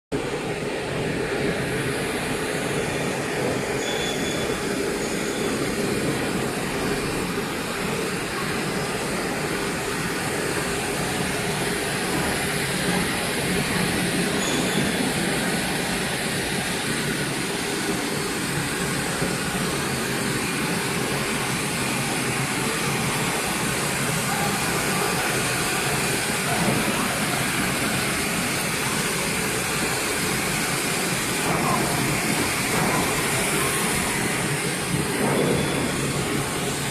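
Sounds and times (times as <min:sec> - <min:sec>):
extrusion machine running: 0:00.2 - 0:36.9.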